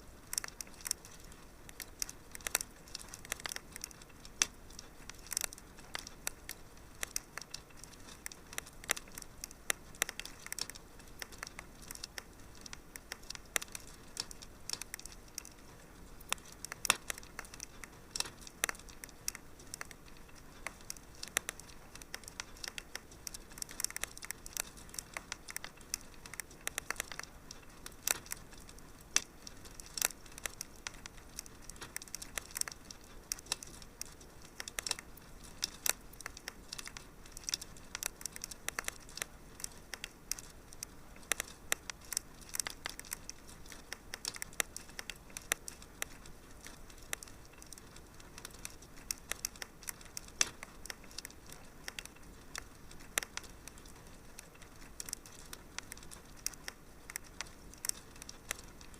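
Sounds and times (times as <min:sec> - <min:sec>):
fireplace fire crackling: 0:00.0 - 0:58.9.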